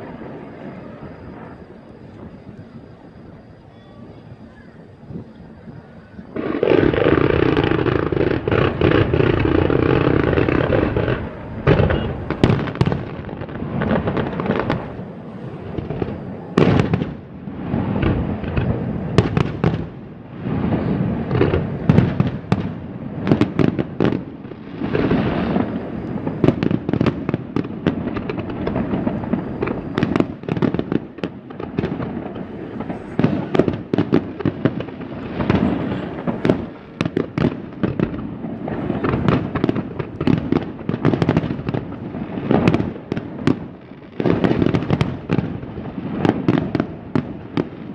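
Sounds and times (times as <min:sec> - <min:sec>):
fireworks crackling: 0:00.0 - 0:47.9.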